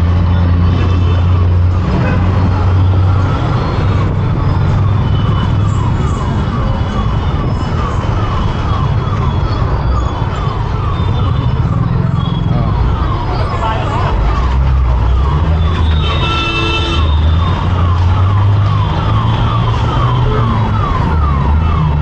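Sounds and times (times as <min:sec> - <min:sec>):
siren with falling electronic tone: 0:02.4 - 0:22.0.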